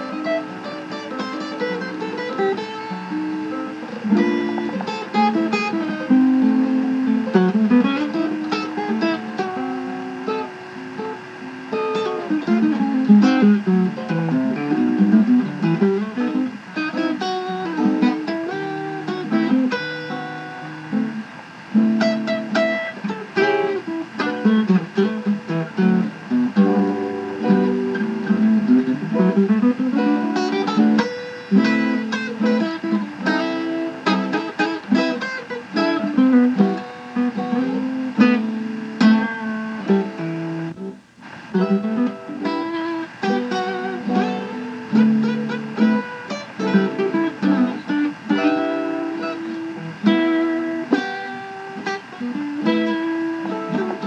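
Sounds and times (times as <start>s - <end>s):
plucked guitar melody: 0.0s - 54.0s.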